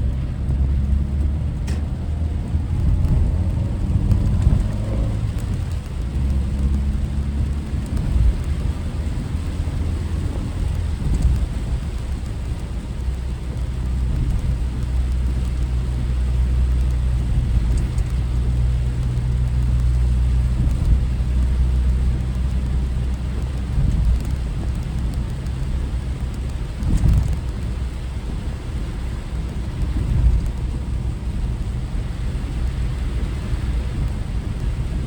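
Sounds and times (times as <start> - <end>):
car engine and road noise: 0.0 - 35.0
rain and spray hiss: 0.0 - 35.0.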